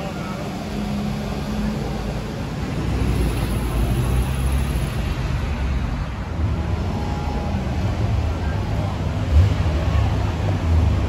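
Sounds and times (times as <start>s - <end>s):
passing cars rumble: 0.0s - 11.0s.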